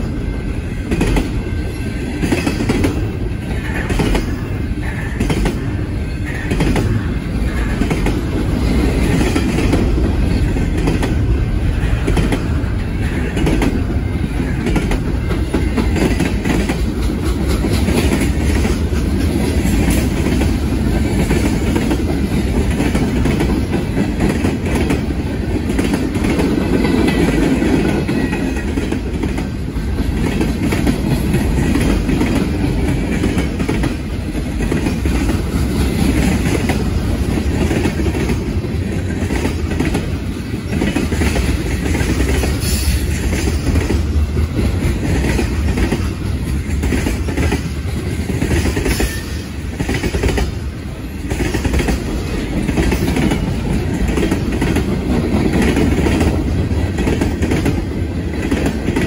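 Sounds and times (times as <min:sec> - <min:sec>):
clickety-clack of rail joints: 0:00.0 - 0:59.0
steel wheels rumbling on rail: 0:00.0 - 0:59.0.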